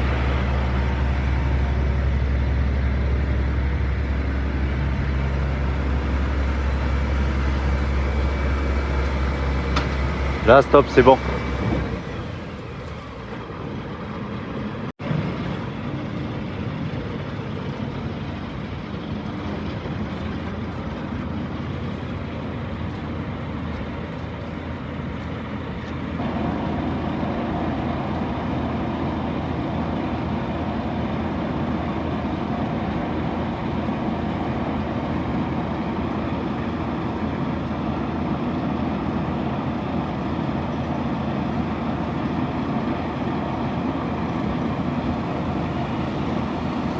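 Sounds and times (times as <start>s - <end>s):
truck engine and machinery running: 0.0s - 46.9s.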